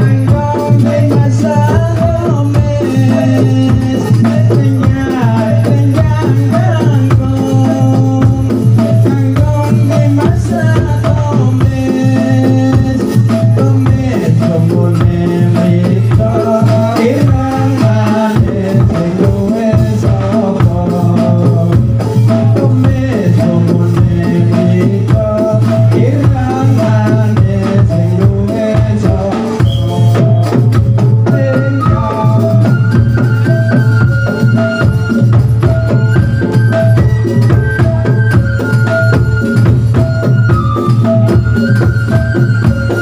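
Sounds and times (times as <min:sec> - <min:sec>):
drums: 0:00.0 - 0:43.0
men singing into microphones: 0:00.0 - 0:43.0
rattling percussion beat: 0:00.0 - 0:43.0.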